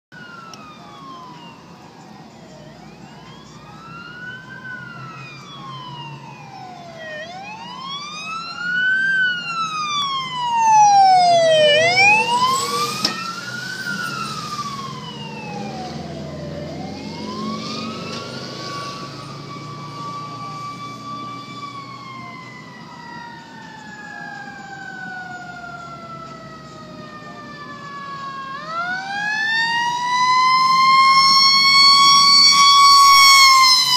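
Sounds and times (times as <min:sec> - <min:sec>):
sirens wailing: 0:00.1 - 0:33.9.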